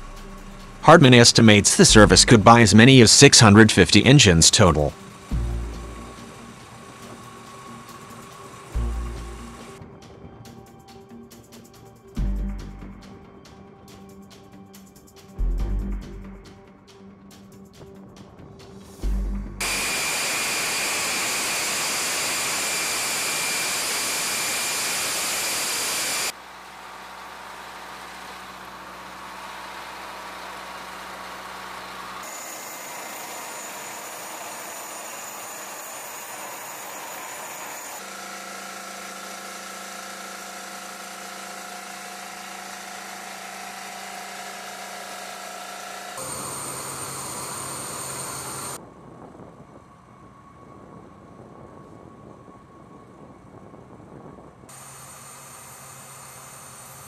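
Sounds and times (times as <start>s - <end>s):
jet turbines rushing and whining: 0.0s - 15.3s, 16.7s - 57.0s
ground equipment engines humming: 0.0s - 57.0s.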